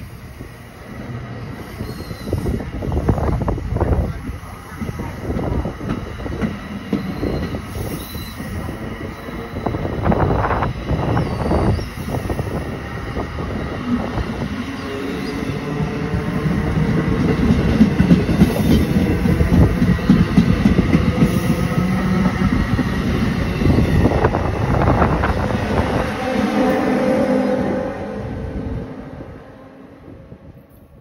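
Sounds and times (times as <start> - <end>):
train wheels rumbling and clattering: 1.5 - 27.8.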